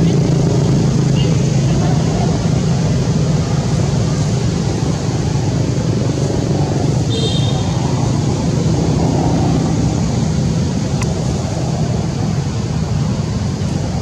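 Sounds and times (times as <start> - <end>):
steady low rumbling: 0.0 - 14.0.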